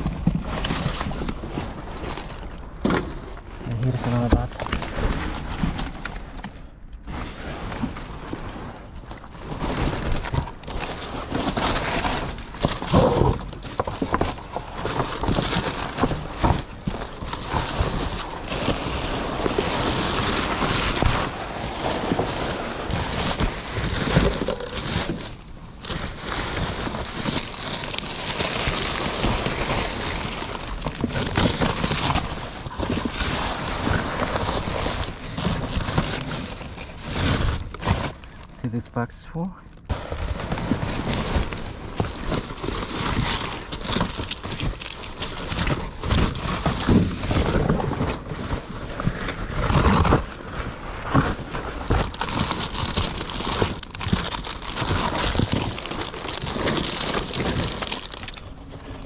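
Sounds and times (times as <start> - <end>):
cardboard and plastic rustling: 0.0 - 59.0.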